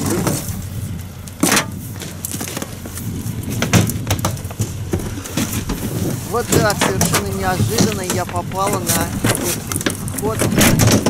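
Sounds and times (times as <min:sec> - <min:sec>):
gear knocking in metal boat: 0:01.4 - 0:11.0.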